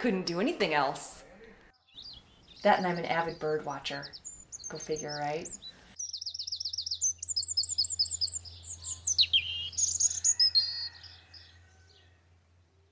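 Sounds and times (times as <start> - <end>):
songbird singing: 1.2 - 12.9.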